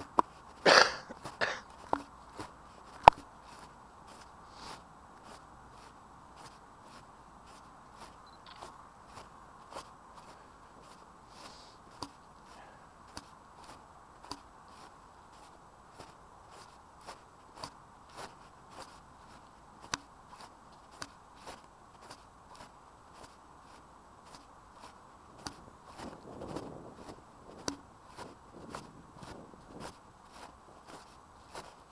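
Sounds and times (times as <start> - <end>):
faint background hum: 0.0 - 31.9
footsteps outdoors: 0.0 - 31.9
rustle: 0.0 - 31.9.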